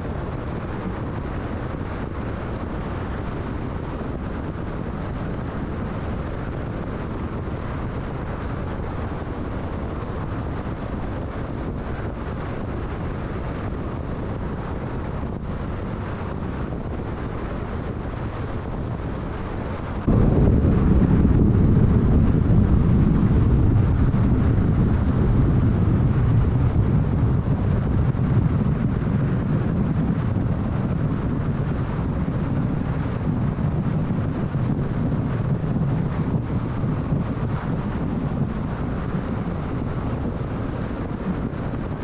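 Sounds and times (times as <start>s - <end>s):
tyre and wind noise: 0.0s - 42.0s.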